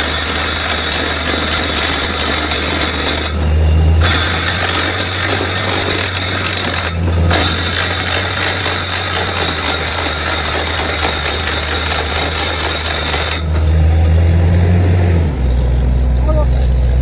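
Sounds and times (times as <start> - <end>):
drilling rattling: 0.0 - 15.0
drilling rig engine hum: 0.0 - 17.0.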